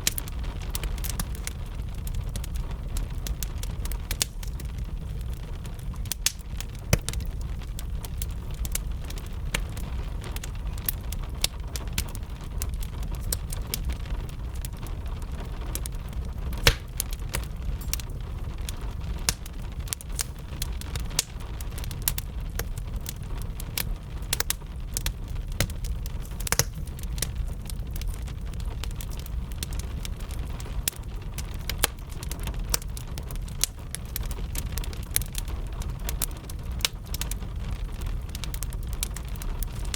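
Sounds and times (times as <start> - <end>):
gentle rain hiss: 0.0 - 39.9
wood fire crackling and popping: 0.0 - 39.9.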